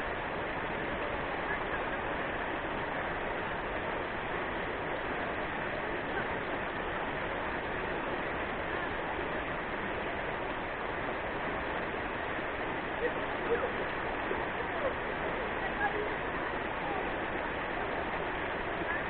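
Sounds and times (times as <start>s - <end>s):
river water rushing over rapids: 0.0s - 19.0s.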